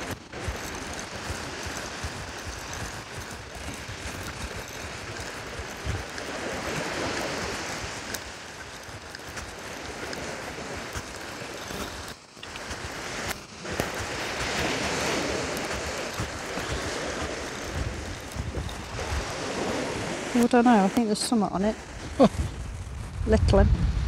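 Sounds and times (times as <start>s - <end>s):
surf breaking on beach: 0.0s - 24.0s
wind buffeting microphone: 0.0s - 24.0s.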